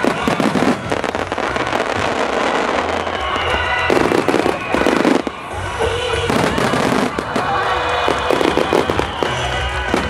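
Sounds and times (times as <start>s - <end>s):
fireworks bursting and crackling: 0.0s - 10.0s.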